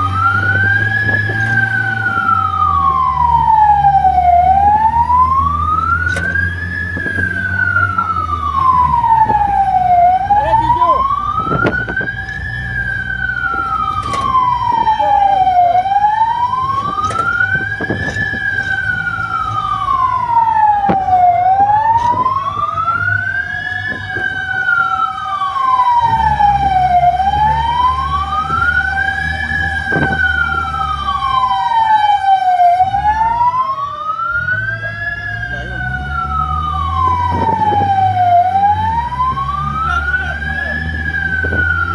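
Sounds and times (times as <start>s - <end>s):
fire truck siren wailing: 0.0s - 41.9s
low engine rumble: 0.0s - 41.9s.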